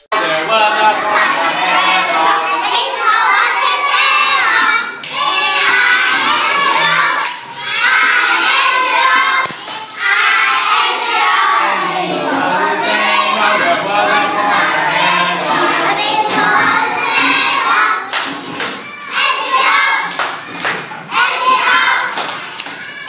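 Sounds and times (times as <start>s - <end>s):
children shouting together: 0.2s - 23.0s.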